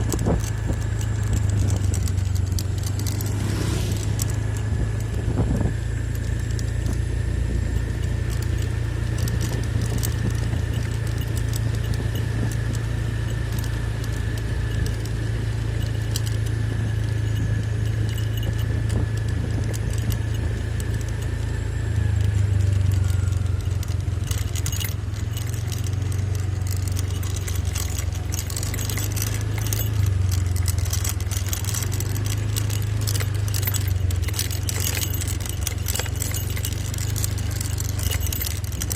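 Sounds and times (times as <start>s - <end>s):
rattling metal clicks: 0.0s - 38.9s
vehicle engine humming: 0.0s - 38.9s.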